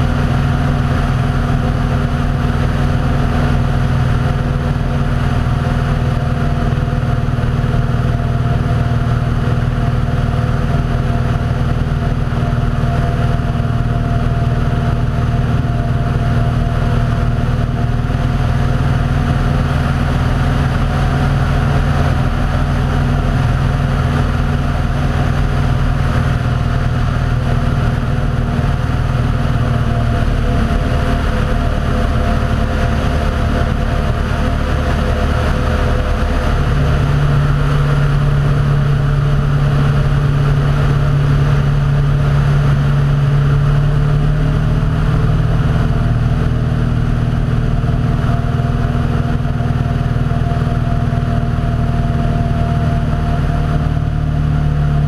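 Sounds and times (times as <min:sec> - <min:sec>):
aircraft engine droning: 0:00.0 - 0:55.0.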